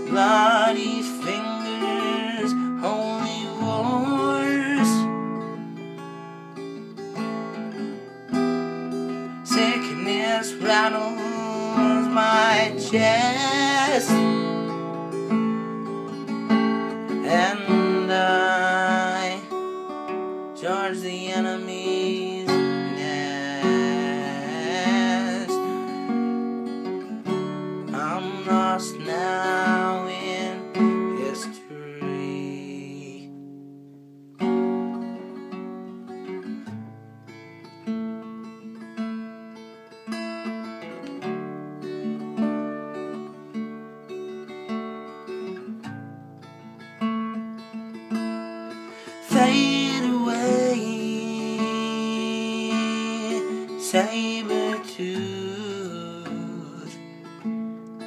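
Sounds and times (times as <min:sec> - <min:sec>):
strummed acoustic guitar: 0:00.0 - 0:58.0.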